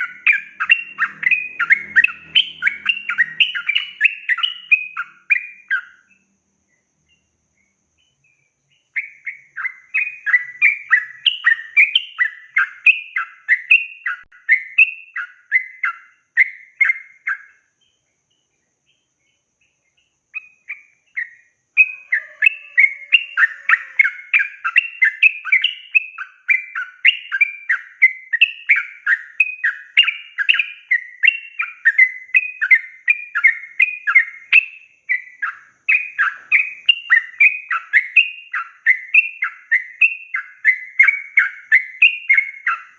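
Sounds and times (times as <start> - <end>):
bulbul chattering song: 0.0 - 42.9.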